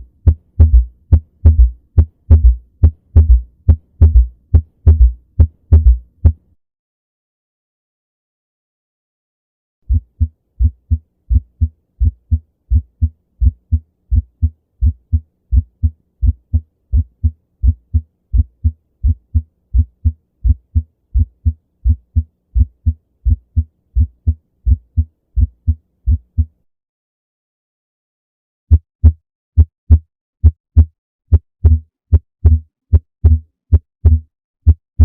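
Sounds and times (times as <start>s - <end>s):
heartbeat thumps: 0.0s - 6.4s, 9.9s - 26.6s, 28.7s - 35.0s.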